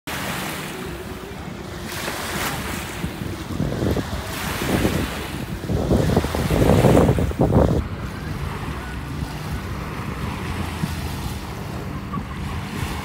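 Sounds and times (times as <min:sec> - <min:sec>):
water lapping and splashing: 0:00.0 - 0:13.0
wind buffeting microphone: 0:00.8 - 0:13.0.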